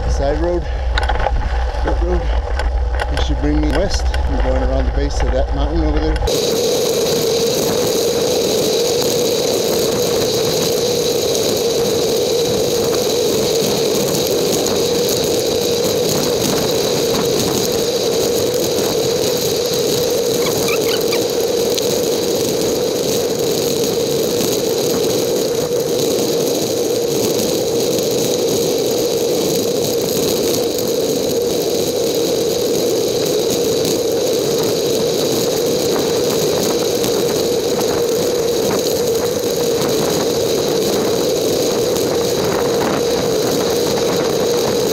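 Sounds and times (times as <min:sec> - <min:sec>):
bicycle tyre and wind noise: 0:00.0 - 0:44.9.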